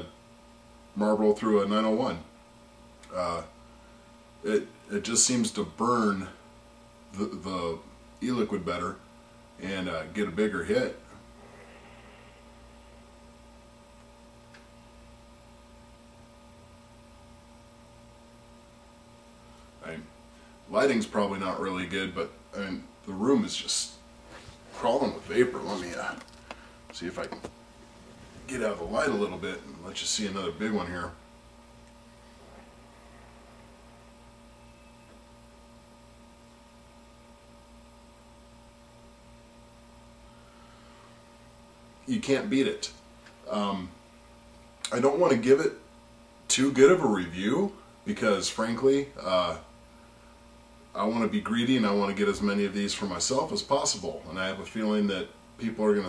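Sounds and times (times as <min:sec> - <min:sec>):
faint electrical hum with tones: 0:00.0 - 0:56.0.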